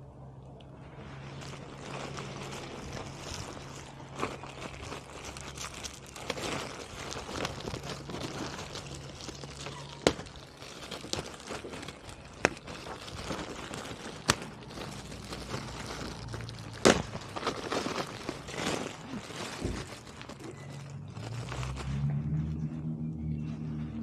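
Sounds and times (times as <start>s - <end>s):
plastic parts rustling and scraping: 0.9s - 22.4s.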